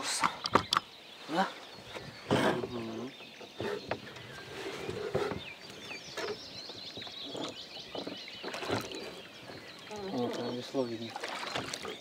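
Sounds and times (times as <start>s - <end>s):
oars splashing in water: 0.0s - 12.0s
small birds chirping: 0.0s - 12.0s.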